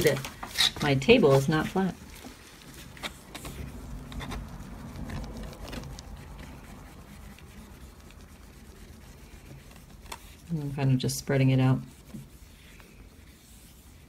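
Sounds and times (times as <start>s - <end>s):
brush scratching on paper: 0.0s - 14.0s.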